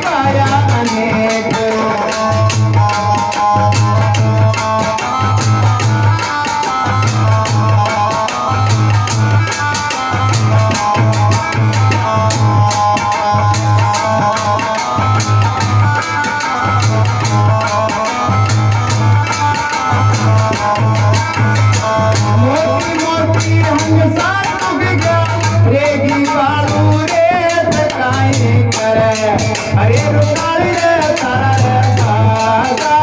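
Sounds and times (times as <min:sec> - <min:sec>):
fast drum beat: 0:00.0 - 0:33.0
melodic instrumental line: 0:00.0 - 0:33.0.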